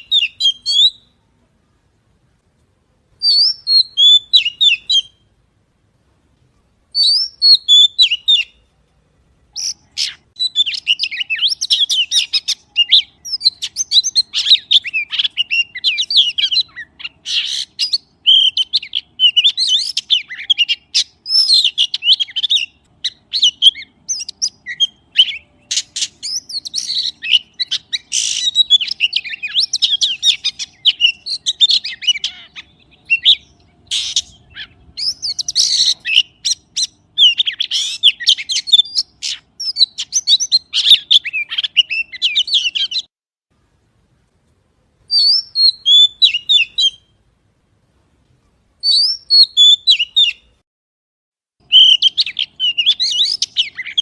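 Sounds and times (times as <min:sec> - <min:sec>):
magpie singing: 0:00.0 - 0:01.2, 0:03.2 - 0:05.3, 0:06.9 - 0:08.7, 0:09.5 - 0:43.1, 0:45.1 - 0:47.2, 0:48.8 - 0:50.6, 0:51.6 - 0:54.0.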